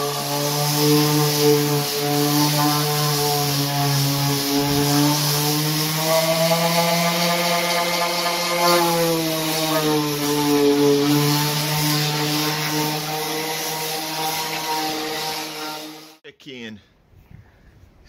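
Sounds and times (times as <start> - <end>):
orbital sander running: 0.0 - 16.2.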